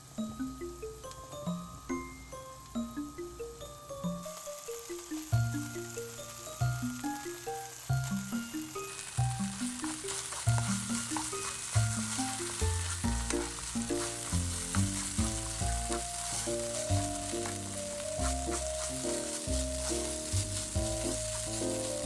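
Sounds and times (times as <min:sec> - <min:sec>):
background music with plucked melody: 0:00.0 - 0:22.0
food sizzling in a pan: 0:00.3 - 0:22.0.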